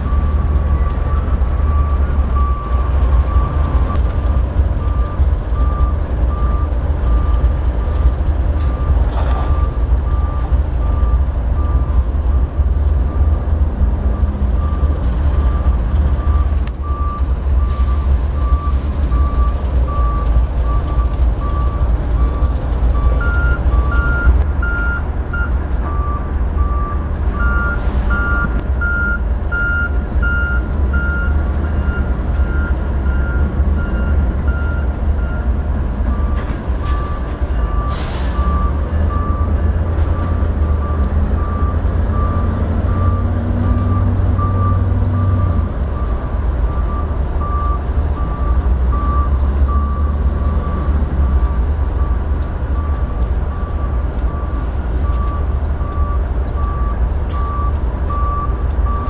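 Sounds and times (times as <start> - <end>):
backup alarms beeping: 0.0 - 4.1, 14.6 - 59.0
idling diesel locomotives rumble: 0.0 - 59.0.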